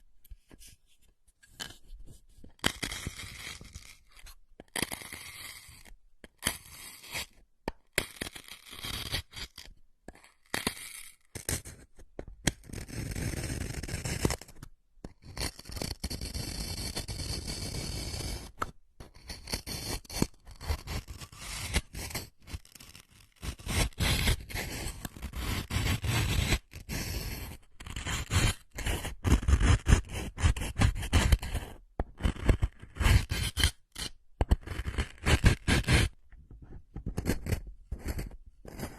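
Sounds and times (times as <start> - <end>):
close scraping and scratching: 0.3 - 7.4, 12.6 - 38.9.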